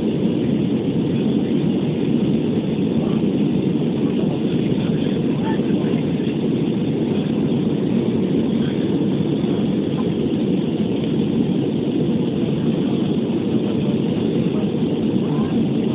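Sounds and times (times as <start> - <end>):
jet engines and airflow in cabin: 0.0 - 15.9.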